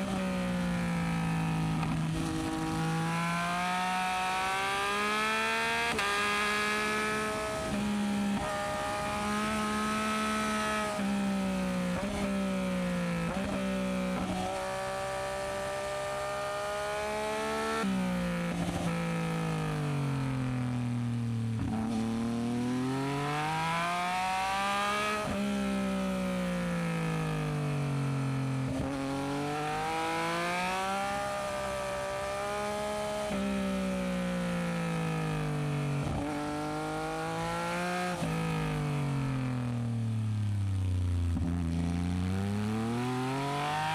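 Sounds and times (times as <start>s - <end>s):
motorcycle engine revving: 0.0s - 26.4s, 27.1s - 43.9s.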